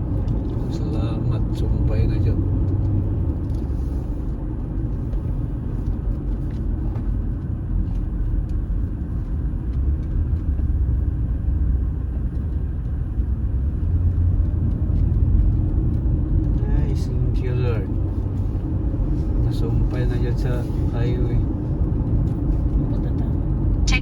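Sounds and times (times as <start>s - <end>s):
car tyres and engine rumble: 0.0s - 24.0s.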